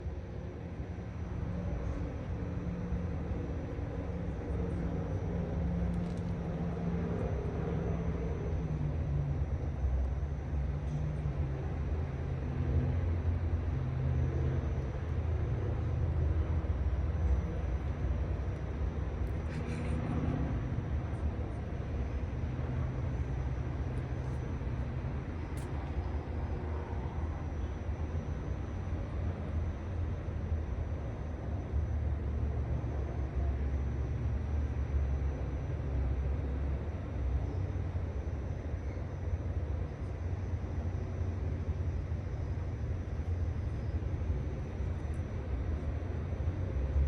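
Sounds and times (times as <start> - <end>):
low mechanical rumble: 0.0 - 47.0.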